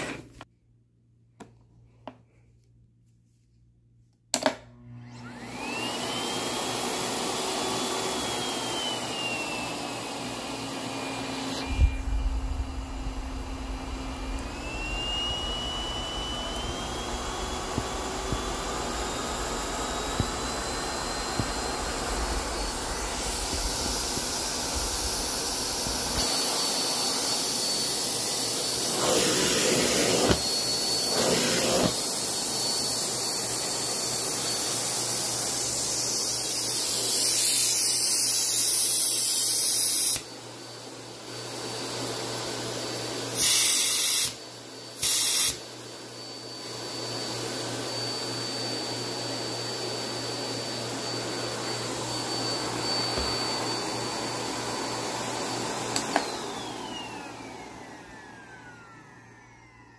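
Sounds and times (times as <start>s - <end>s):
vacuum cleaner running: 0.0s - 0.4s, 4.4s - 59.9s.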